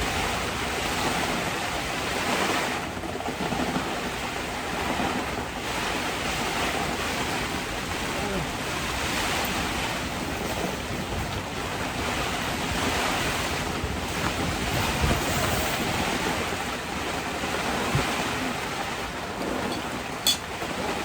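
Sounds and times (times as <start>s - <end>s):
heavy rain on a tent: 0.0s - 21.0s
wind gusting: 0.0s - 21.0s.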